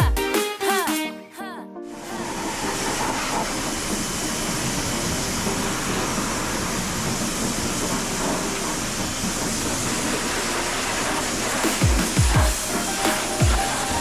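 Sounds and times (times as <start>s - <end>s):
pressure washer spraying water: 2.0s - 14.0s.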